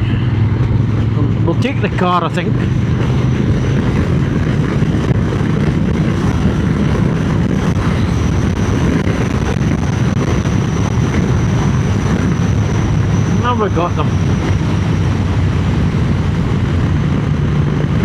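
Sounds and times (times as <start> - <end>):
motorcycle engine running: 0.0 - 18.0
wind noise: 0.0 - 18.0.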